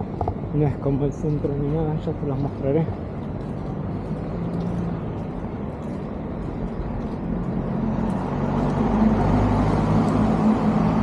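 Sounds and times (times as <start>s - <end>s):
road noise: 0.0s - 11.0s
vehicle engine hum: 0.0s - 11.0s.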